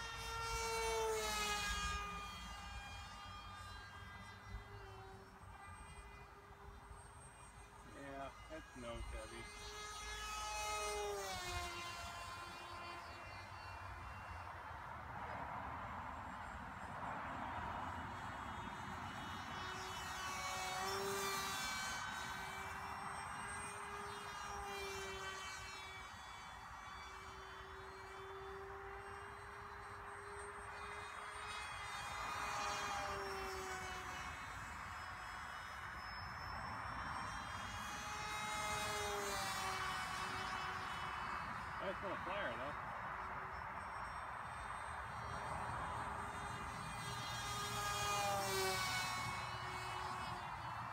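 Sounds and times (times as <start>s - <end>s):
model plane motor whining: 0.0s - 50.9s.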